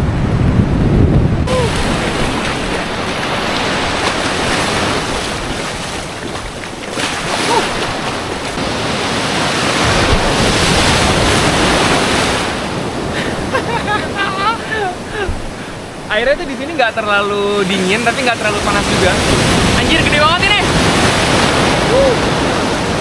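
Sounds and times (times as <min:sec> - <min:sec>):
waves breaking in surf: 0:00.0 - 0:23.0.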